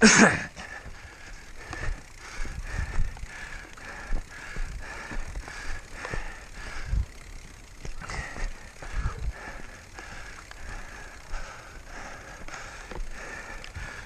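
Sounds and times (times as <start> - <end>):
bike knocking and rattling: 0.0 - 14.0
bike freewheel hub ratcheting: 0.6 - 14.0.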